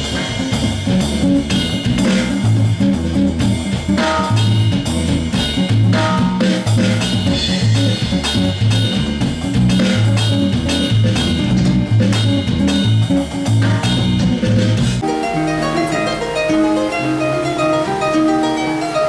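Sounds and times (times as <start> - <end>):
electric bass line: 0.0 - 19.0
electronic drum beat: 0.0 - 19.0
harp plucked notes: 0.0 - 19.0.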